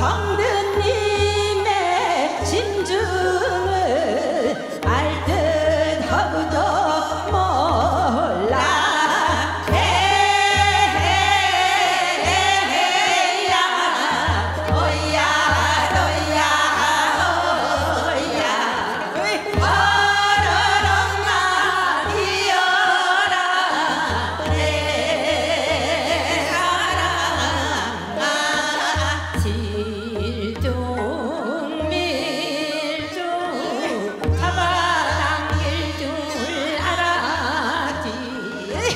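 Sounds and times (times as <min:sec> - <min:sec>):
instrumental accompaniment: 0:00.0 - 0:38.9
woman singing folk song: 0:00.0 - 0:38.9.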